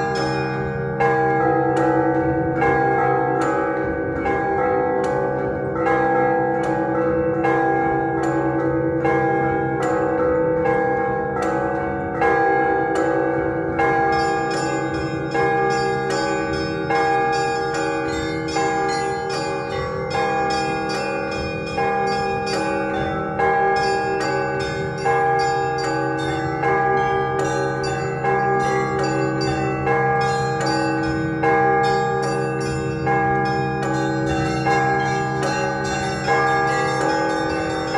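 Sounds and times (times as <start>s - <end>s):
large bells ringing: 0.0s - 37.9s.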